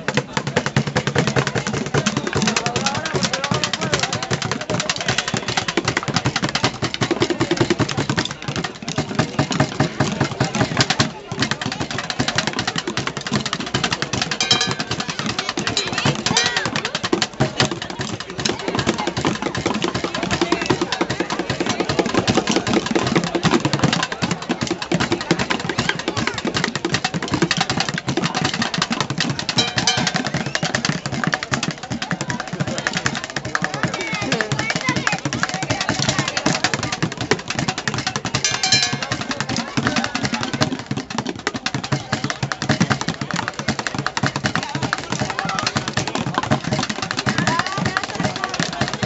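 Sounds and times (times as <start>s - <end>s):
drumming on buckets: 0.0s - 49.0s.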